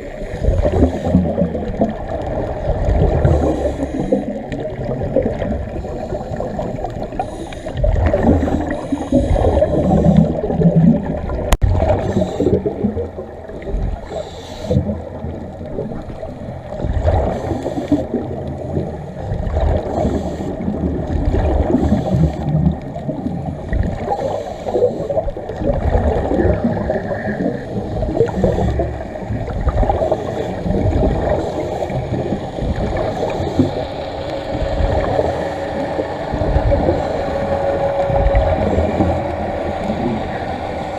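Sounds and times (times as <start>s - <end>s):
muffled water gurgling: 0.0s - 40.9s.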